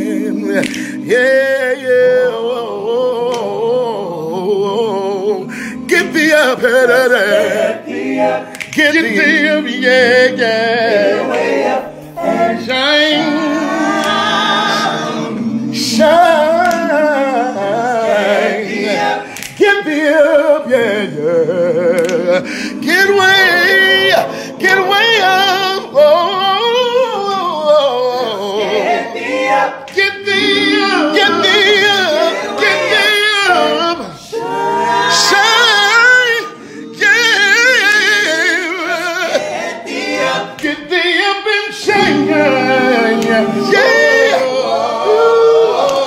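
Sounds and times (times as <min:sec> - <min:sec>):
men's a cappella gospel singing: 0:00.0 - 0:46.0.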